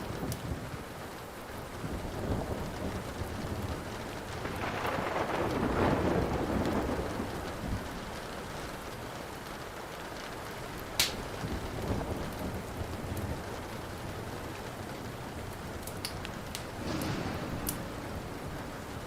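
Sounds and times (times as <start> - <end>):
thunder rumble: 0.0 - 9.6, 10.7 - 19.0
burning wood popping and crackling: 0.0 - 19.0
steady rain: 0.0 - 19.0.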